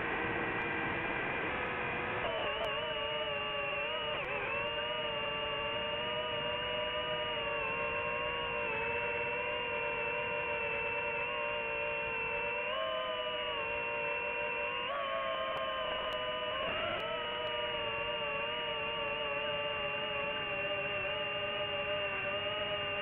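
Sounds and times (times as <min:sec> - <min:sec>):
quadcopter motors whining: 0:02.0 - 0:23.0.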